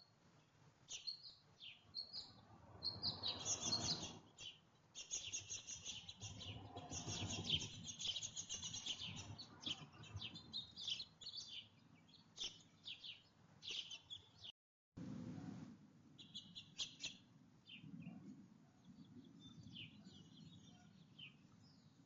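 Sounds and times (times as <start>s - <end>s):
small songbirds chirping: 0.0s - 14.6s, 16.1s - 22.0s.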